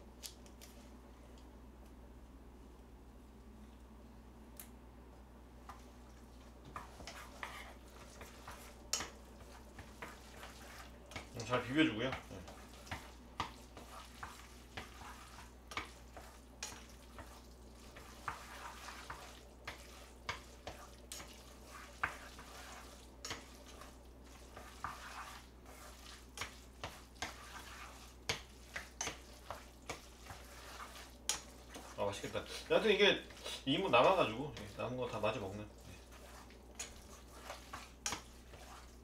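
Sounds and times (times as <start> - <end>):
wet stirring of noodles: 5.5 - 39.0.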